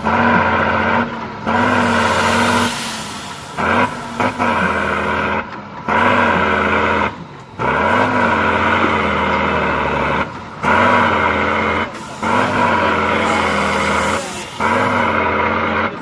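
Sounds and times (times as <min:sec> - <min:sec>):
diesel truck engine revving: 0:00.0 - 0:16.0.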